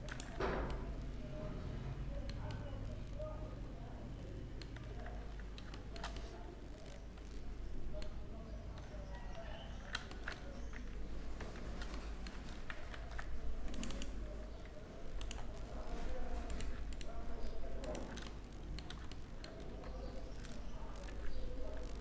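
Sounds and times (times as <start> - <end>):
keyboard and mouse clicks: 0.0 - 1.0, 4.6 - 22.0.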